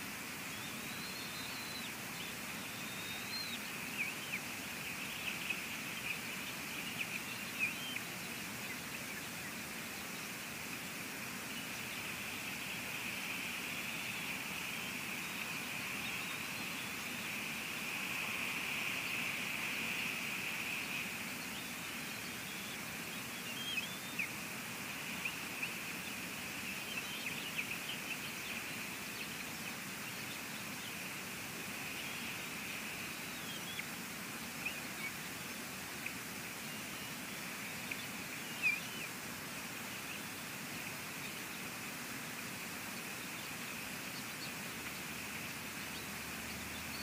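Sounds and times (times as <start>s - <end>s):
rain and wind hiss: 0.0s - 47.0s.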